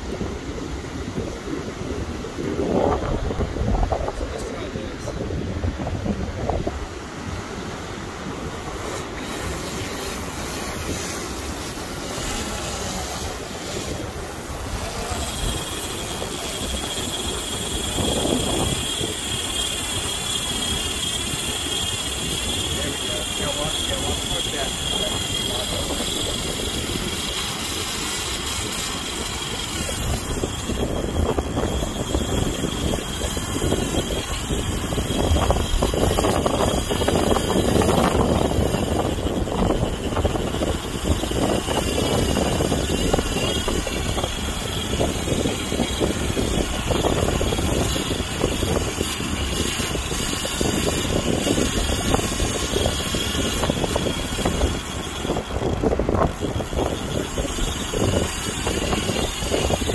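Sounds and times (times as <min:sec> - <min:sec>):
waves breaking on beach: 0:00.0 - 0:59.9
wind rushing against microphone: 0:00.0 - 0:59.9.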